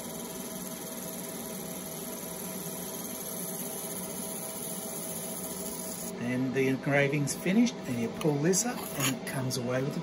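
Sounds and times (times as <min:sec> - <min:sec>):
laser engraver humming: 0:00.0 - 0:10.0.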